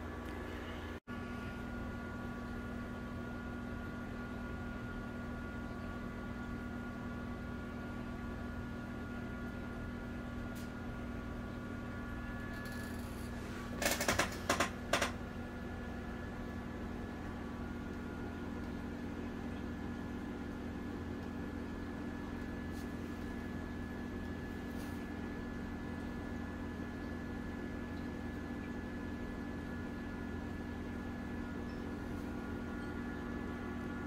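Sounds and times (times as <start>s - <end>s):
aquarium equipment humming: 0.0s - 34.0s.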